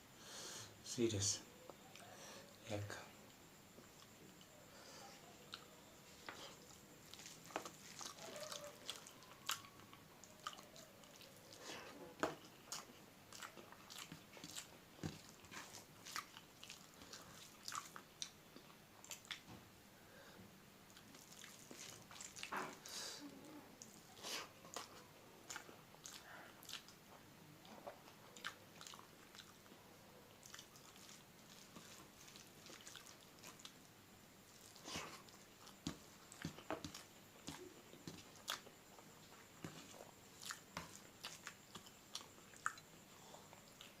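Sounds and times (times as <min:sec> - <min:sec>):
chewing and mouth smacks: 0:05.5 - 0:19.6, 0:20.9 - 0:22.9, 0:23.8 - 0:33.8, 0:34.5 - 0:44.0.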